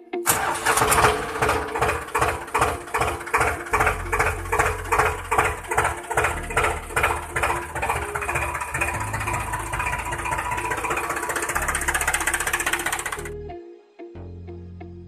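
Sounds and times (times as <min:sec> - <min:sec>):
toy tractor motor whining: 0:00.2 - 0:13.4.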